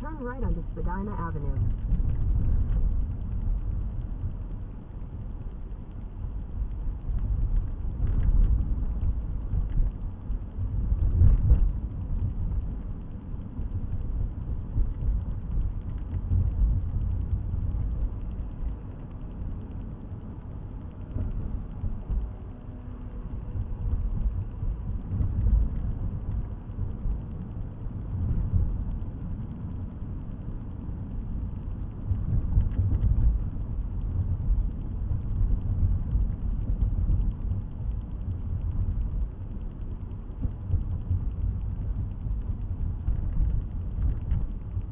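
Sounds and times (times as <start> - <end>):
car interior road and engine noise: 0.0 - 44.9.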